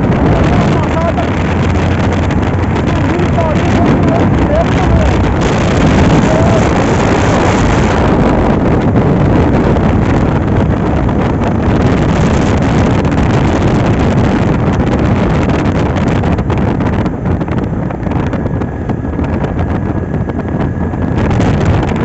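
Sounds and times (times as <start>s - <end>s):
low vehicle drone: 0.0s - 22.0s
wind buffeting microphone: 0.0s - 22.0s.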